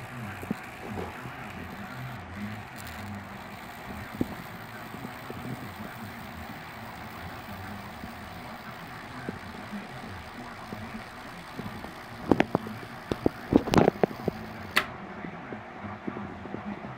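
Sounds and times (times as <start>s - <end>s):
burning wood sizzling: 0.0s - 14.9s
electric arc crackles and pops: 0.0s - 14.9s
low electrical hum: 0.0s - 16.9s.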